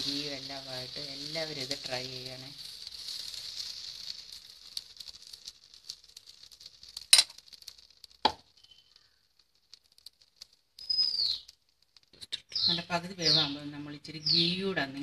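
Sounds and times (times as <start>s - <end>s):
batter sizzling on hot pan: 0.0s - 15.0s.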